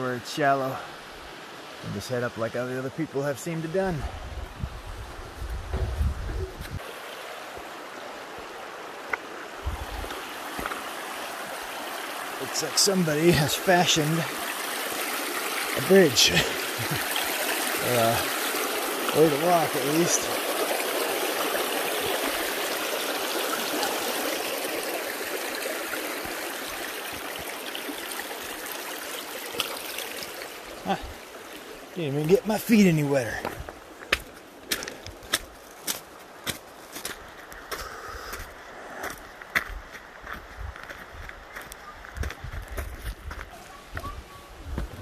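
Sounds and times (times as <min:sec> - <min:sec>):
creek rippling over stones: 0:06.6 - 0:45.0.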